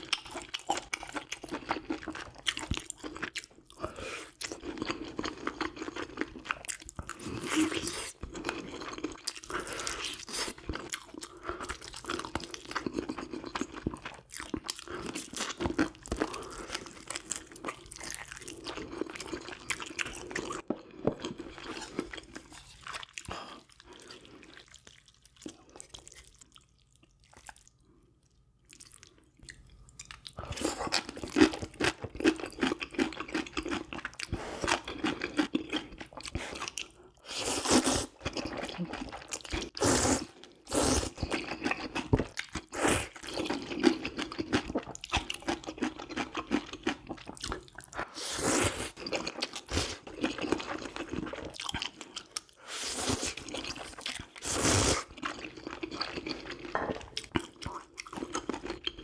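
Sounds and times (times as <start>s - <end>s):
person chewing and crunching food: 0.0s - 59.0s.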